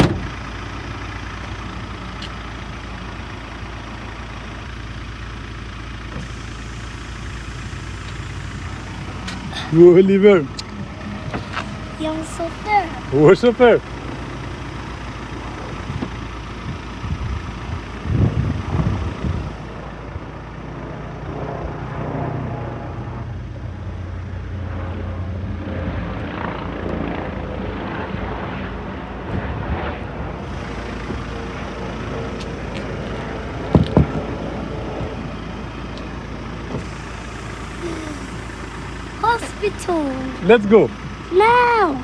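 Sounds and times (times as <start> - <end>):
engine idling: 0.0 - 27.9, 30.2 - 42.0.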